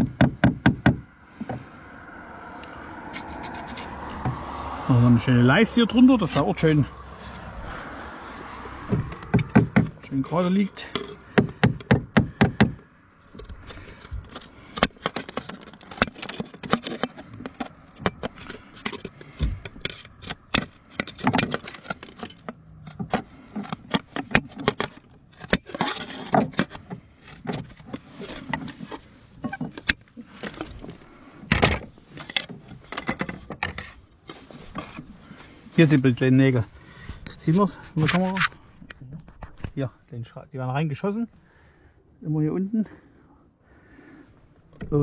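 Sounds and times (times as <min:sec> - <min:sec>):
scraping: 0:01.3 - 0:39.9.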